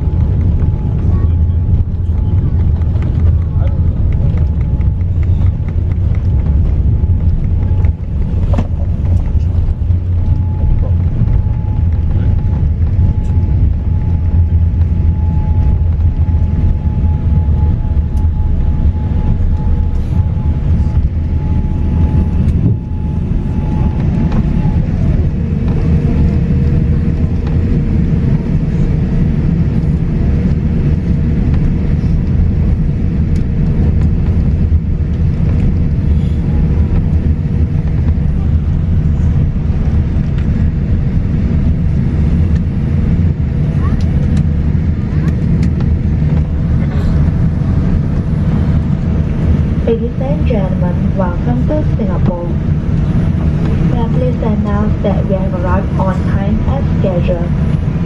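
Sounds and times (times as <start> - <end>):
low rumble of wheels and engines: 0.0 - 58.0.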